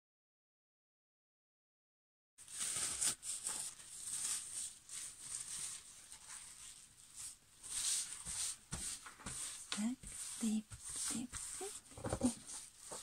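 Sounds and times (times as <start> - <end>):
plastic bag swishing and crinkling: 2.4 - 13.0.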